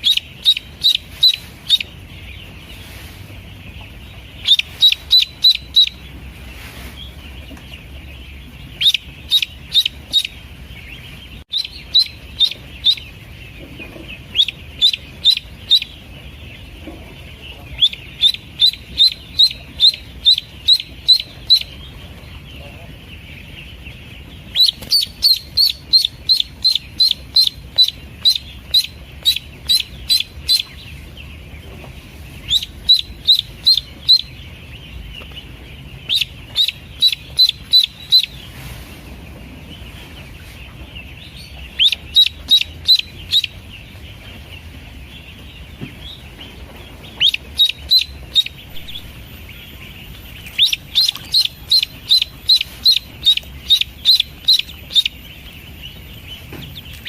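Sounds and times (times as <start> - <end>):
duckling peeping: 0.0 - 57.0
steady low hum: 0.0 - 57.0.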